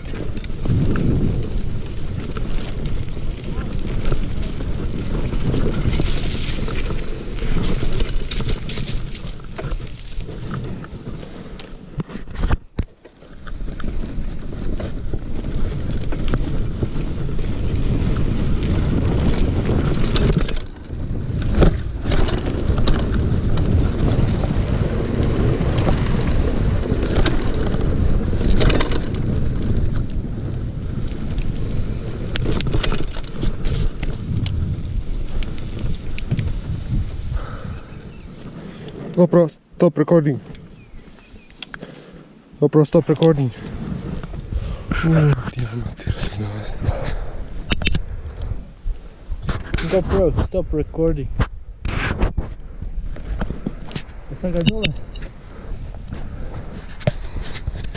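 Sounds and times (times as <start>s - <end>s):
bike knocking and rattling: 0.0s - 39.2s, 49.3s - 57.9s
tyres rumbling over dirt: 0.0s - 57.9s
wind rushing over microphone: 0.0s - 57.9s.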